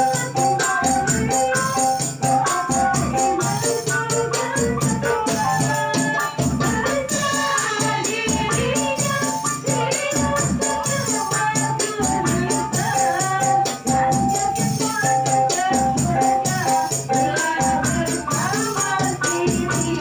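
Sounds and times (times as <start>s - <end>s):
tambourine beat: 0.0s - 20.0s
women singing: 0.0s - 20.0s.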